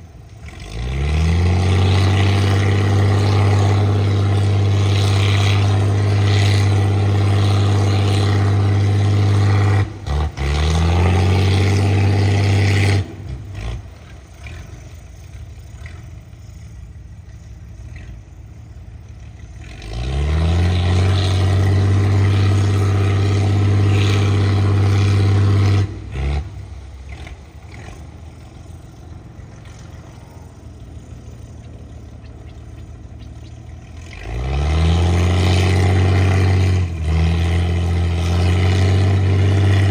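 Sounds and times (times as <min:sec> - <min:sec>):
boat engine revving: 0:00.0 - 0:39.9.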